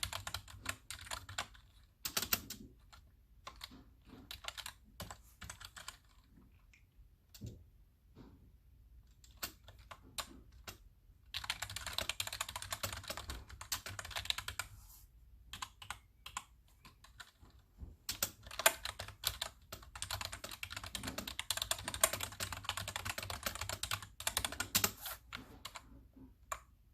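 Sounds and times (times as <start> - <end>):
typing on a computer keyboard: 0.0 - 6.7, 9.0 - 14.7, 15.5 - 26.8.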